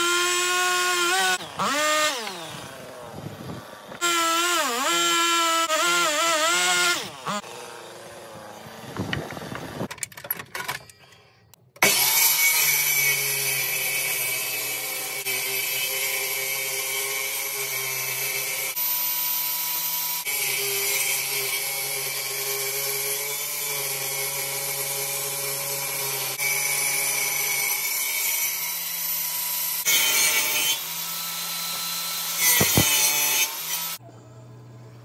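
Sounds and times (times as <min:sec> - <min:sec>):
table saw cutting wood: 0:00.0 - 0:09.9, 0:11.8 - 0:34.0.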